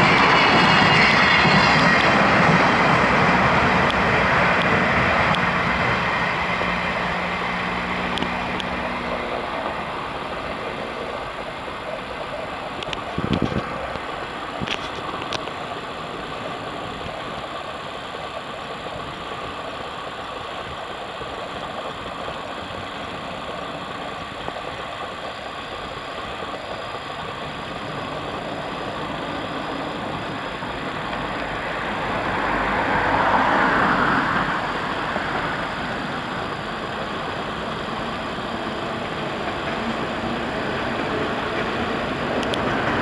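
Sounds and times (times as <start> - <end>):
train rolling rumble: 0.0 - 43.0.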